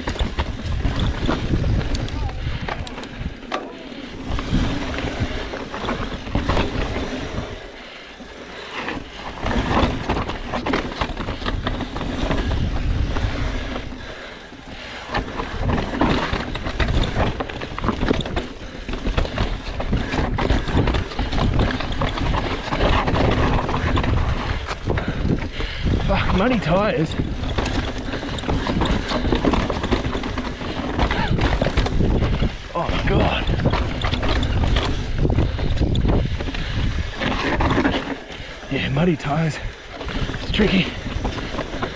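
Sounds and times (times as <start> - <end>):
wind rumble on microphone: 0.0 - 3.5, 4.1 - 7.6, 9.4 - 14.2, 15.1 - 41.9
bike rattling and knocking: 0.0 - 41.9
bike tyres crunching over stones: 0.0 - 41.9.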